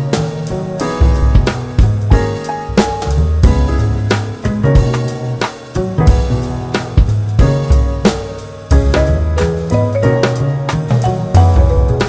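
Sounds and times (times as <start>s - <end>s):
music with drums bass and keyboard: 0.0s - 12.0s.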